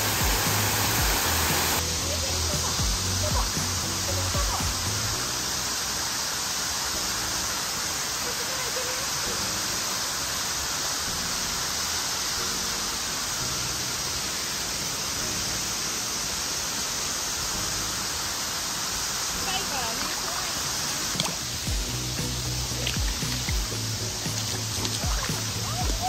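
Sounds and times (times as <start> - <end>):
river rushing over rocks: 0.0 - 26.0.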